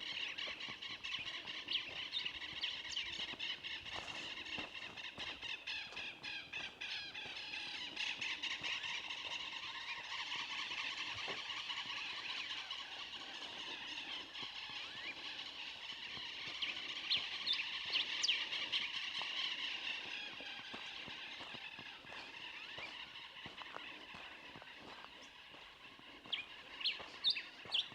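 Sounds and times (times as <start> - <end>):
chorus of bird calls: 0.0 - 27.9.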